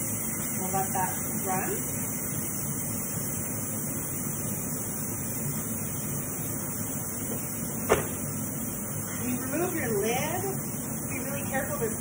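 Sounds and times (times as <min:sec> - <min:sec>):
range hood fan running: 0:00.0 - 0:12.0
steam venting hiss: 0:00.0 - 0:12.0.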